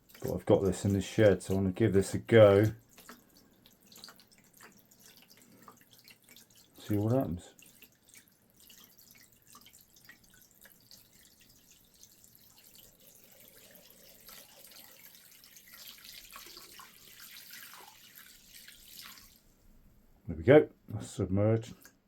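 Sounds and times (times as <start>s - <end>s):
liquid trickling and dripping: 0.0s - 19.8s.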